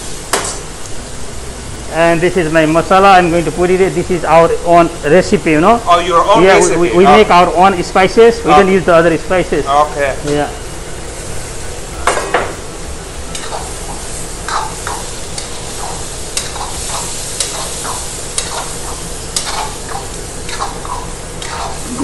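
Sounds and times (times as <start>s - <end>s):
chicken sizzling in a wok: 0.0s - 5.8s, 6.8s - 22.0s.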